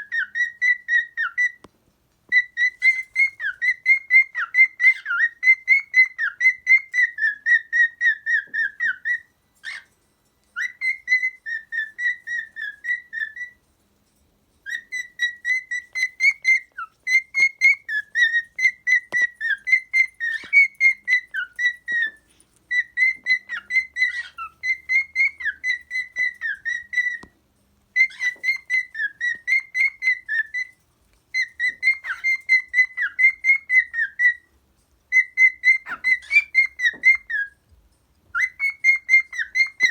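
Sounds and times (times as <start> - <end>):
cockatiel whistling: 0.0 - 1.7, 2.3 - 9.9, 10.6 - 13.6, 14.6 - 27.3, 27.9 - 34.5, 35.1 - 37.6, 38.3 - 39.9.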